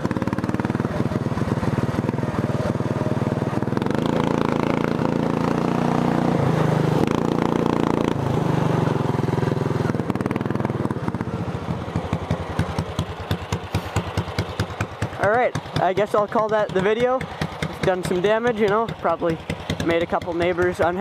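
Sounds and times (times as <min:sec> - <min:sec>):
lawn tractor engine: 0:00.0 - 0:21.0.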